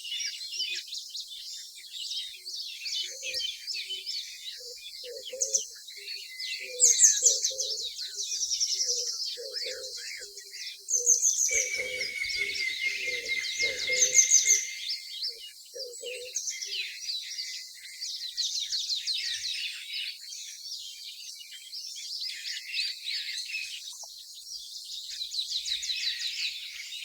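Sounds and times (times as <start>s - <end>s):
small birds chirping: 1.3s - 27.0s.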